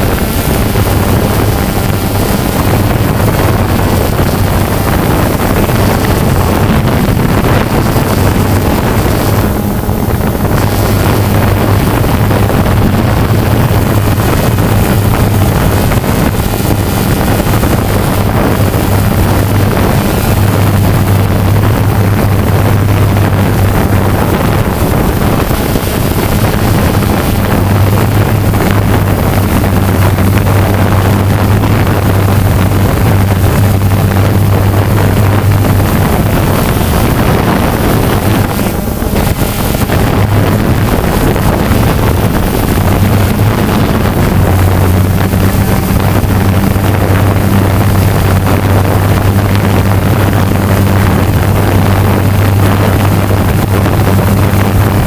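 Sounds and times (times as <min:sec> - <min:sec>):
drone propellers humming: 0:00.0 - 0:55.0
wind noise: 0:00.0 - 0:55.0.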